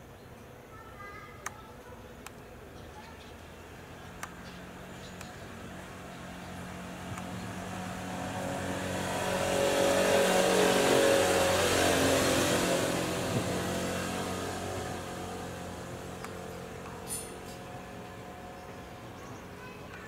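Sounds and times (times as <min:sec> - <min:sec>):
engine passing by: 0:02.6 - 0:20.0.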